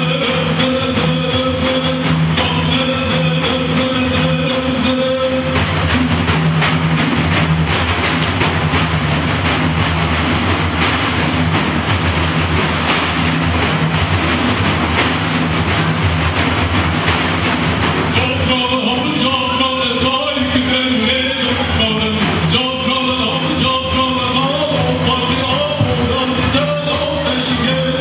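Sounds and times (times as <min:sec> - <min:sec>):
frame drums playing fast rhythm: 0:00.0 - 0:28.0.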